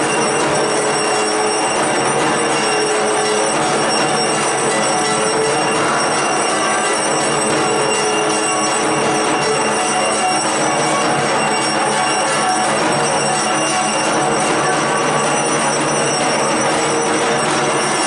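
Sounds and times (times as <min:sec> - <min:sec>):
bells jangling: 0:00.0 - 0:18.0.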